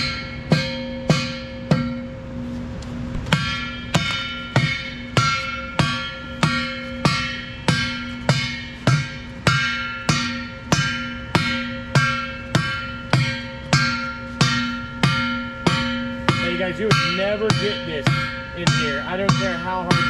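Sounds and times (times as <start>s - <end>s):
mallet blows on metal: 0.0s - 2.3s, 3.2s - 20.0s
metal hub ringing: 0.0s - 2.4s, 3.0s - 20.0s.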